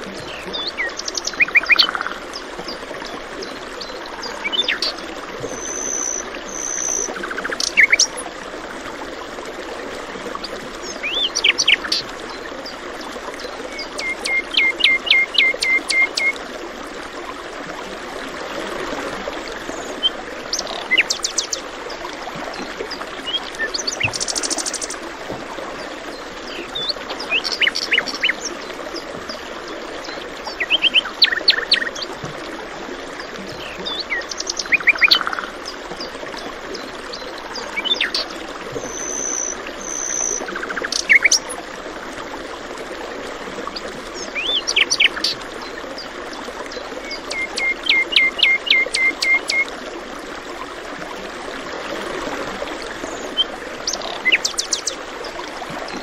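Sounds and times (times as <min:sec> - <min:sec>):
running stream water: 0:00.0 - 0:56.0.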